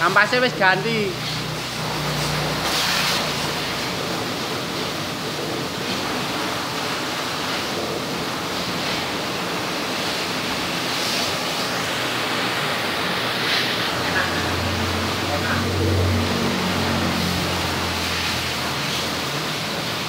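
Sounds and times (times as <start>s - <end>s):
high-pressure water jet spraying: 0.0s - 20.0s.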